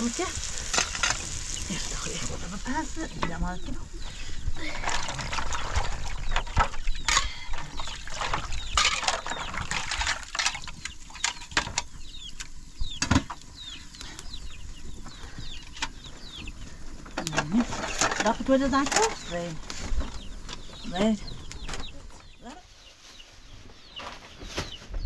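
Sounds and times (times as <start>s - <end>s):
chickens clucking and chirping: 0.0s - 25.0s.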